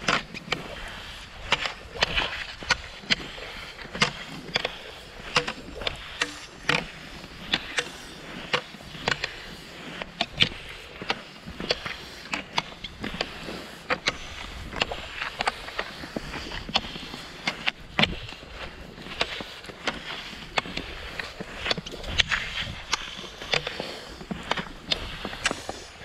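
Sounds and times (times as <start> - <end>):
ski pole tips clicking: 0.0 - 26.0
skis hissing on snow: 0.0 - 26.0.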